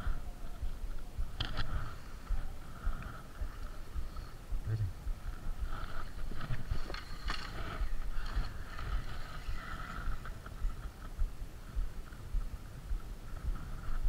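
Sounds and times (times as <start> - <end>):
gear clicks and rustles: 0.0 - 14.0
wind rumbling on microphone: 0.0 - 14.0.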